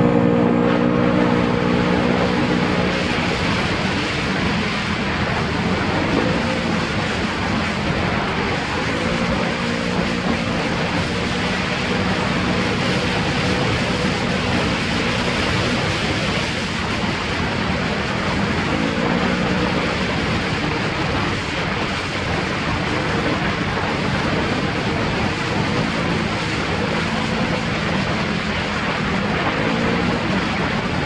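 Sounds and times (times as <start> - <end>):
atv engine running: 0.0 - 31.0
loud rushing noise: 0.0 - 31.0.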